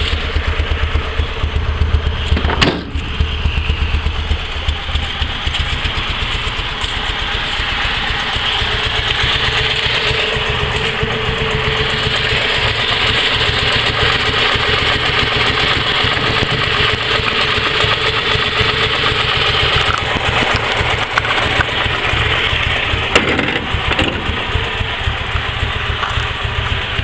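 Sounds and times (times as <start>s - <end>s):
flat-twin engine running: 0.0s - 27.0s.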